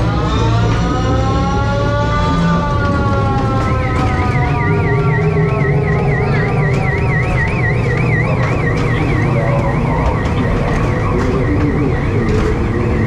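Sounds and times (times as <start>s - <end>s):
fairground noise: 0.0s - 13.0s
ride machinery rumble: 0.0s - 13.0s
electronic warbling alarm: 0.2s - 13.0s.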